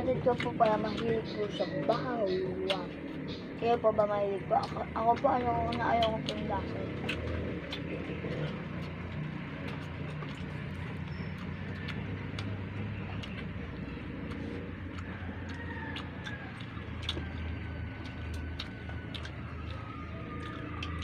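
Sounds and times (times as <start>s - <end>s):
low hum: 0.0s - 21.0s
mouth chewing clicks and smacks: 0.0s - 21.0s.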